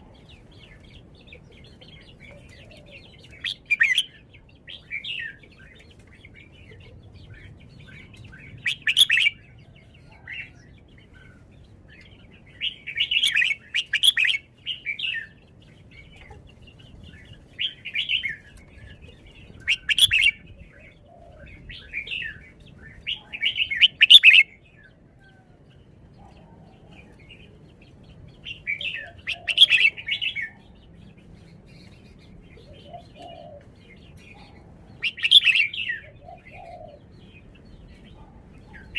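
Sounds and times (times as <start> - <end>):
bird singing chirping phrases: 0.0 - 38.9.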